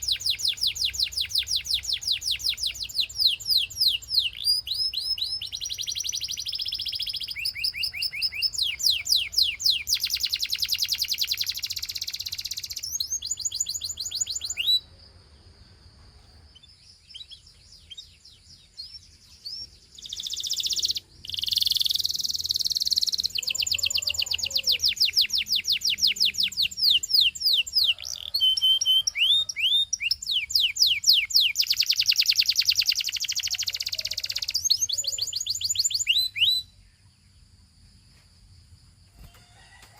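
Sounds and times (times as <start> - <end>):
canary singing: 0.0 - 14.9, 16.4 - 36.8.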